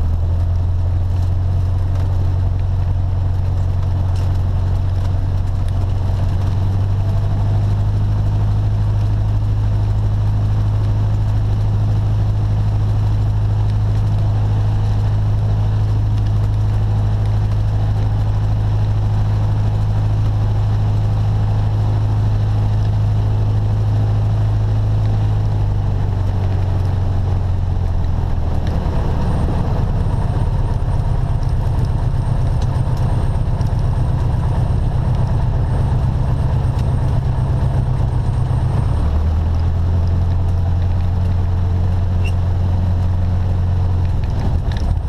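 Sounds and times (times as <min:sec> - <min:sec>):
light airplane engine and propeller: 0:00.0 - 0:45.0.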